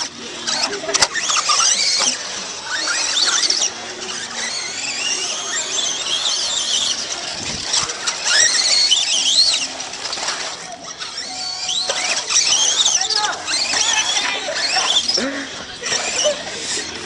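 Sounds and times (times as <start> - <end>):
toy truck motors whining: 0.0 - 17.0.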